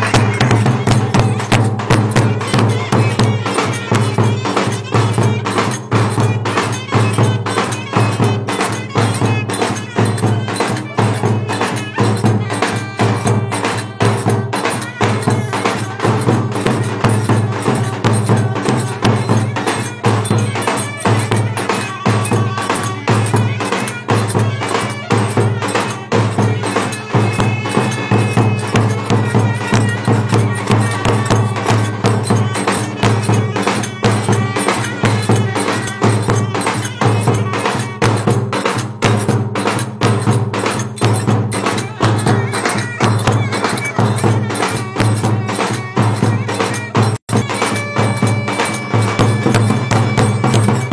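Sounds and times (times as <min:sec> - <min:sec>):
clarinets playing dance music: 0:00.0 - 0:38.3, 0:40.7 - 0:50.9
fast percussion beat: 0:00.0 - 0:50.9.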